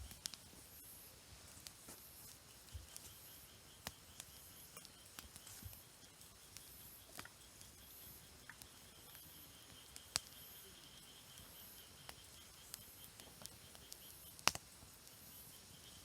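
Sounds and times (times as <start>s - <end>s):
campfire crackling and popping: 0.0s - 16.0s
insects chirping: 0.0s - 16.0s.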